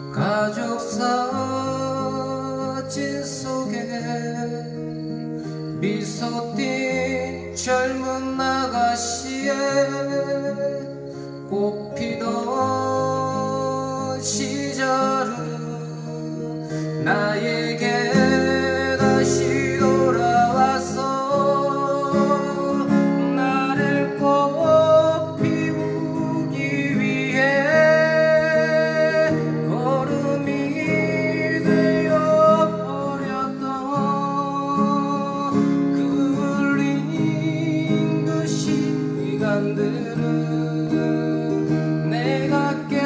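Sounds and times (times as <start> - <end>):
acoustic guitar strumming: 0.0 - 43.0
man singing: 0.0 - 43.0.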